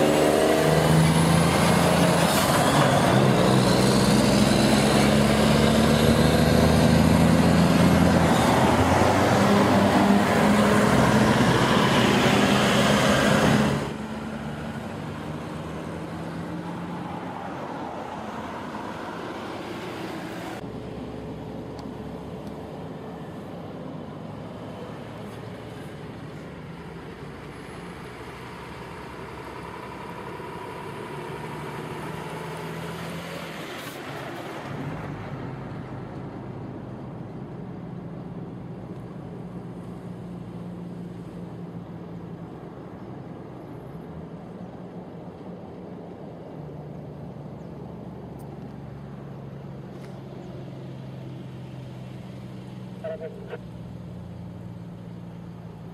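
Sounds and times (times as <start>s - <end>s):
diesel truck engines running: 0.0s - 55.9s.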